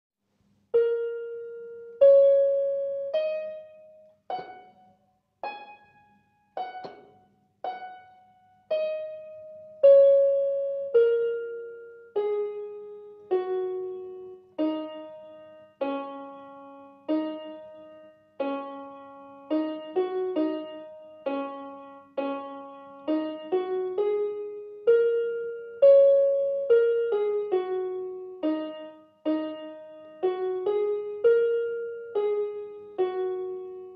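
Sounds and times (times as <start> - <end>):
slow piano melody: 0.7 - 33.9.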